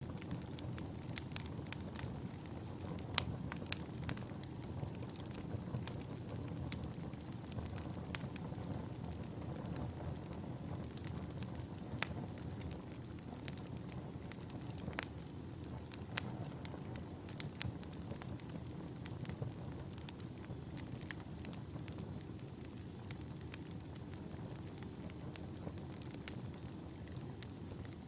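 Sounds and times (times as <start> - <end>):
fire popping: 0.0 - 28.0
low rush of flames: 0.1 - 28.0.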